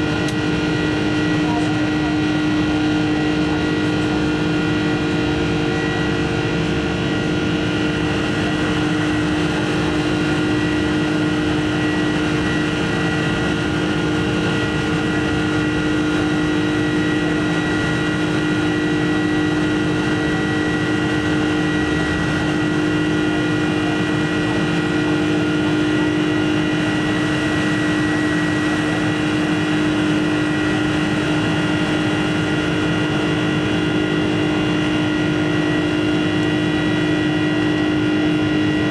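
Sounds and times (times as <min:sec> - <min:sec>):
jet engine drone: 0:00.0 - 0:38.9
steady whining tones: 0:00.0 - 0:38.9.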